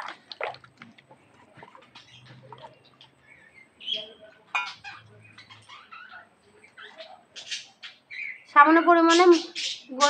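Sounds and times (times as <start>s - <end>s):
birds chirping and calling: 1.2s - 10.0s.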